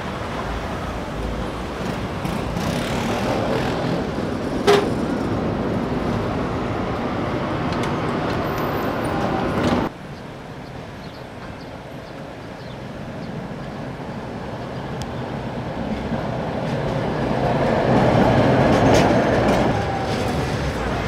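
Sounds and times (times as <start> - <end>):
tram passing by: 0.0 - 21.0.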